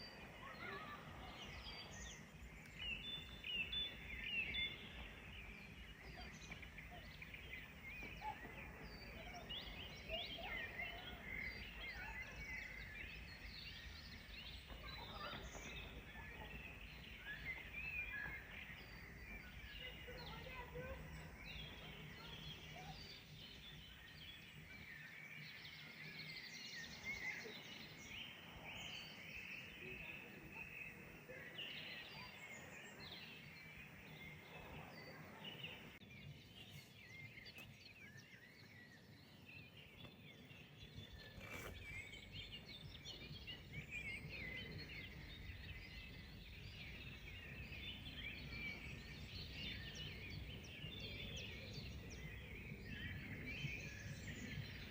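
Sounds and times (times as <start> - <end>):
small birds chirping and singing: 0.0 - 54.9
steady outdoor background noise: 0.0 - 54.9.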